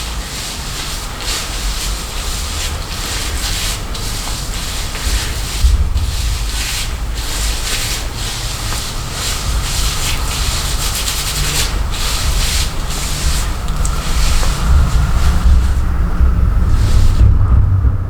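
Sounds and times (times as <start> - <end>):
rubbing strokes near microphone: 0.0 - 17.7
strong wind gusting: 0.0 - 18.0.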